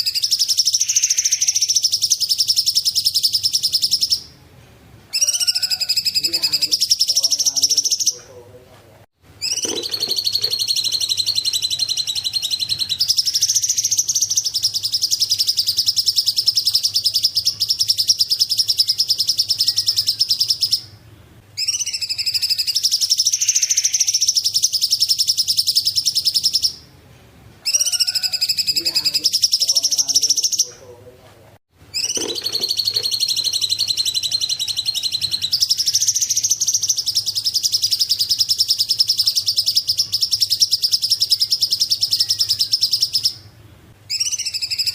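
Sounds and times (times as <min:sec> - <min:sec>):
bird singing rapid high trills: 0:00.0 - 0:04.4, 0:05.1 - 0:08.2, 0:09.4 - 0:21.0, 0:21.6 - 0:26.9, 0:31.9 - 0:43.5, 0:44.1 - 0:44.9.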